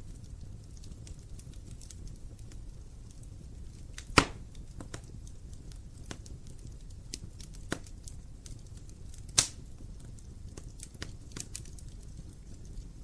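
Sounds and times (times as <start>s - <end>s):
fire crackling and popping: 0.0s - 13.0s
fire flame rumble: 0.0s - 13.0s.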